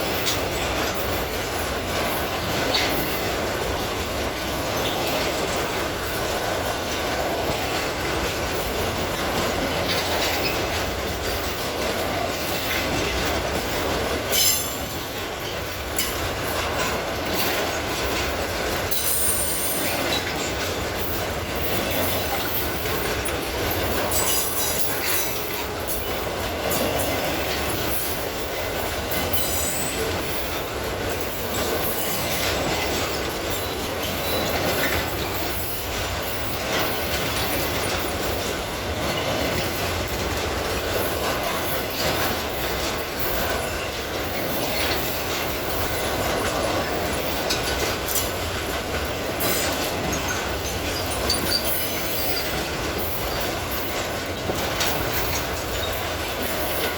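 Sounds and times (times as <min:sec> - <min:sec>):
freight train rolling past: 0:00.0 - 0:56.9.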